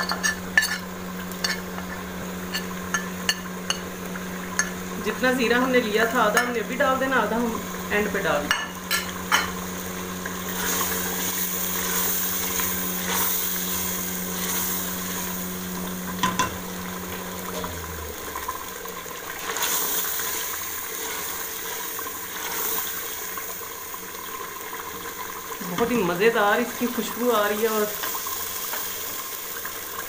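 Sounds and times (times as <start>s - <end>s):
food sizzling in a pot: 0.0s - 30.0s.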